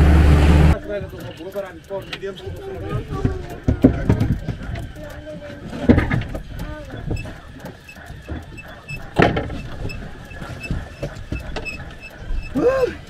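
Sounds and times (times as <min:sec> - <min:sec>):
boat engine rumble: 0:00.0 - 0:13.0
wind: 0:00.0 - 0:13.0.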